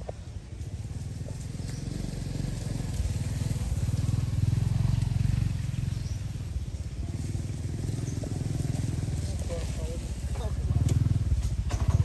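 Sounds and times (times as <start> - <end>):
small engine pulsing rumble: 0.0 - 12.0.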